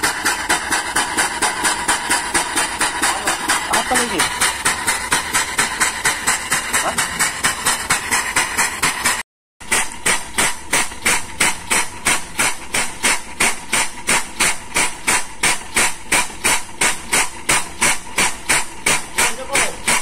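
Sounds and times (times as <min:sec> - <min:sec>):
air-operated diaphragm pump running: 0:00.0 - 0:20.0.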